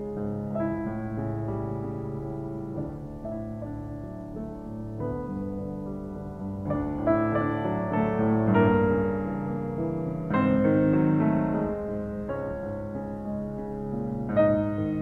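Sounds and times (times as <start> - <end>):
piano sustained chords: 0.0 - 15.0.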